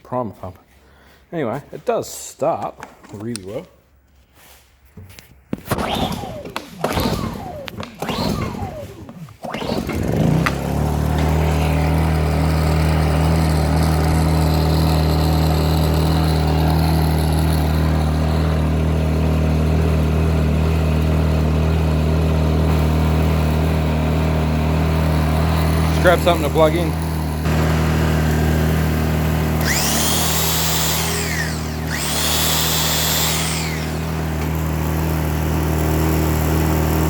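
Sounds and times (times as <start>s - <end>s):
generator pull-start: 5.6s - 37.0s
generator engine running: 5.8s - 37.0s.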